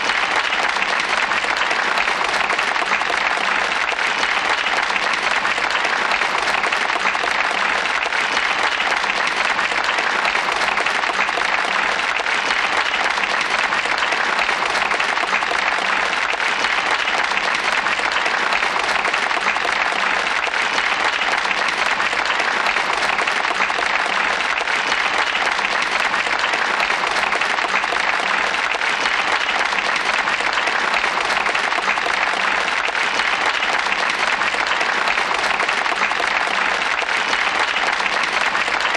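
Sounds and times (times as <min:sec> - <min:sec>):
crowd applauding: 0:00.0 - 0:38.9.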